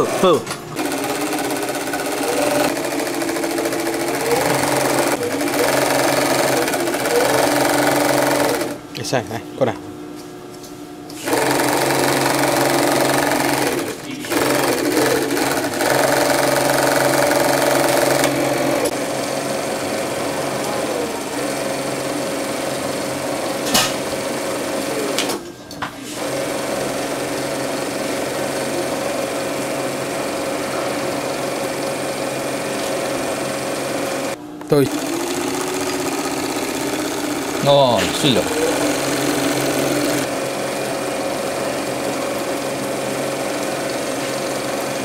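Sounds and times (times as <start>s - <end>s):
sewing machine stitching: 0.0s - 8.8s, 11.2s - 25.4s, 26.0s - 45.0s.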